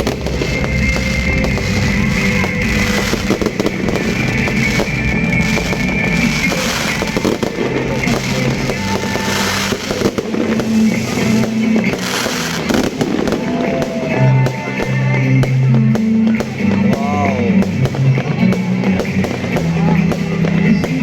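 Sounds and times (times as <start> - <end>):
background music with bass: 0.0 - 21.0
fireworks bursting and crackling: 0.0 - 21.0.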